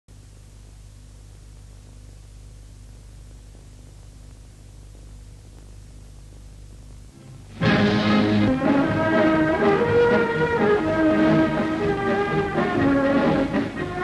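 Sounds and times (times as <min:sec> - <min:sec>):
film soundtrack hiss: 0:00.1 - 0:14.0
low hum: 0:00.1 - 0:14.0.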